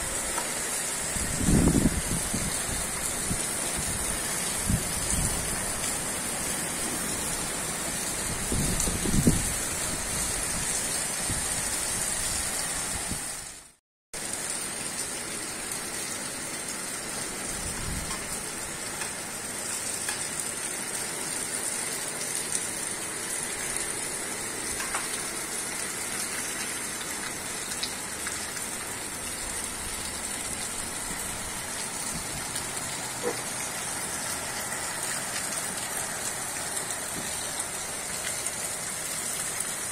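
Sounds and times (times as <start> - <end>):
rain on street and rooftops: 0.0 - 39.9.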